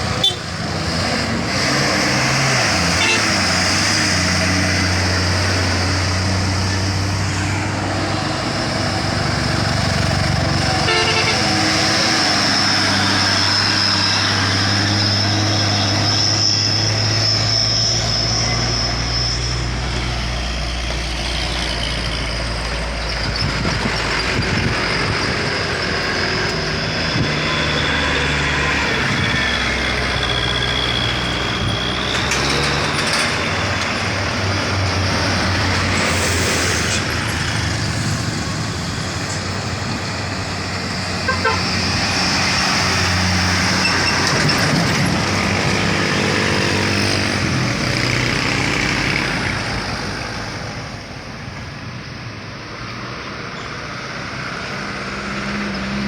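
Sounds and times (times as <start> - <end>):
diesel truck engines labouring: 0.0 - 56.0.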